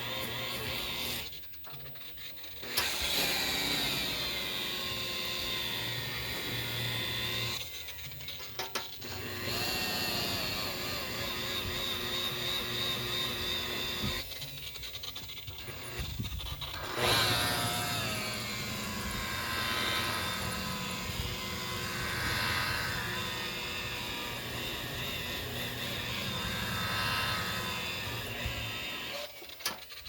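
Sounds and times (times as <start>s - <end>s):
electric buffer polishing: 0.0s - 1.4s, 2.6s - 16.1s, 16.7s - 29.8s.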